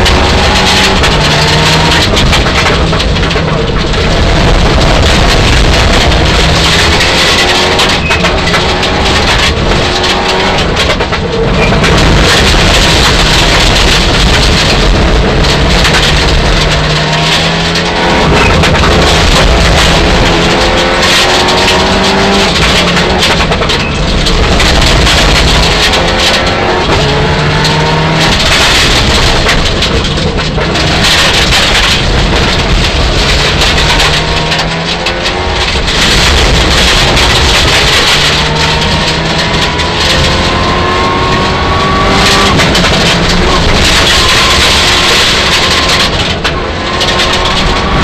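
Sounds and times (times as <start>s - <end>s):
rally car engine revving: 0.0s - 48.0s
road and tyre noise: 0.0s - 48.0s.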